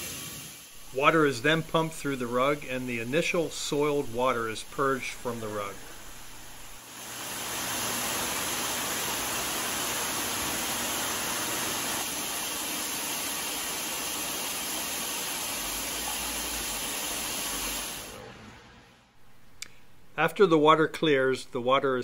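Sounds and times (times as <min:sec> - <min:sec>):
water gushing from a hose: 0:00.0 - 0:18.2.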